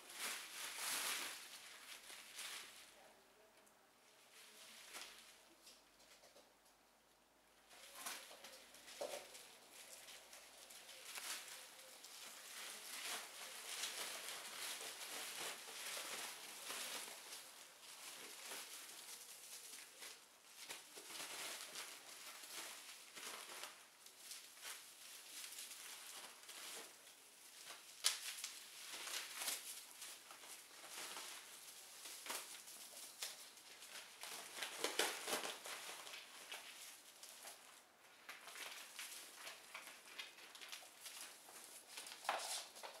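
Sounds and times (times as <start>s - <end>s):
bubble wrap cracking: 0.0s - 3.0s, 7.7s - 43.0s
bubble wrap crinkling: 0.0s - 3.5s, 4.2s - 5.8s, 7.6s - 43.0s.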